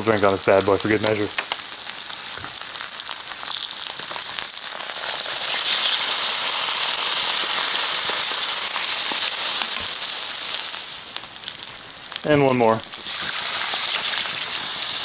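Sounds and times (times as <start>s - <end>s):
crackles: 0.0s - 15.0s
liquid hissing on hot plastic: 0.0s - 15.0s.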